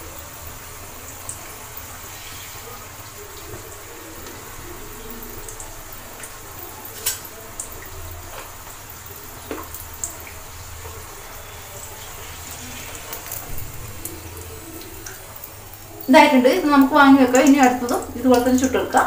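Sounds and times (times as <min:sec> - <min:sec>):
oil sizzling: 0:00.0 - 0:19.0.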